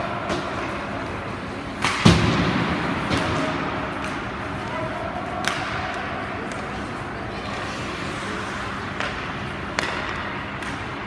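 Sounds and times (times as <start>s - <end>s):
stick and puck clacks: 0.0s - 7.8s, 8.4s - 11.0s
murmur of rink crowd: 0.0s - 11.0s.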